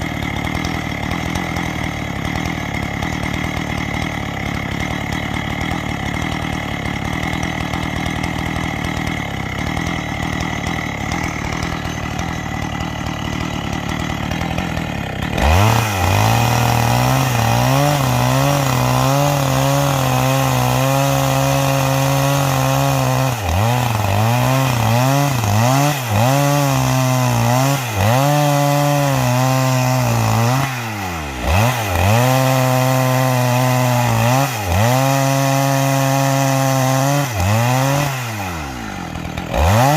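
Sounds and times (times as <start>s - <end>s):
chainsaw cutting log: 0.0s - 39.9s
chainsaw engine running: 0.0s - 39.9s.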